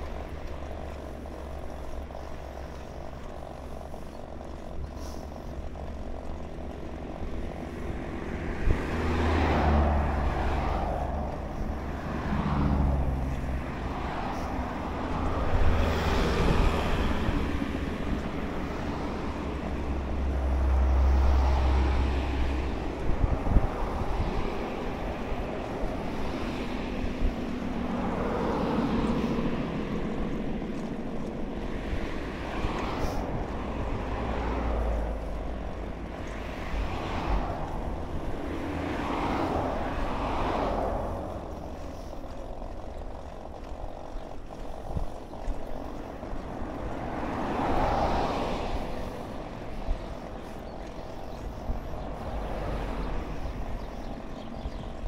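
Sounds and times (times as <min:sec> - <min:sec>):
cars passing on road: 0:00.0 - 0:55.0
low steady rumble: 0:00.0 - 0:55.0.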